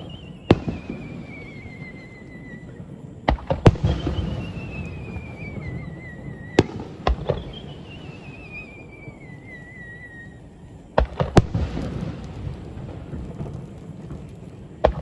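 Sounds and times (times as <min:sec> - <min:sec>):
high warbling firework whistle: 0:00.0 - 0:12.7.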